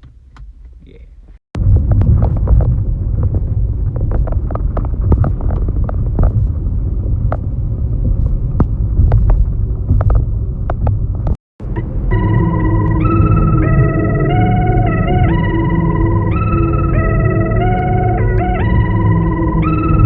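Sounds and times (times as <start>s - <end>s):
car cabin rumble: 0.0s - 20.0s.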